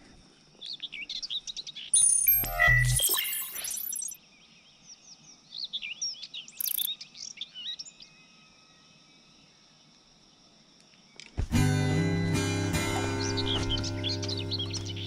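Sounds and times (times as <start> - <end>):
forest birds chirping and whistling: 0.5 - 11.3, 12.8 - 15.0.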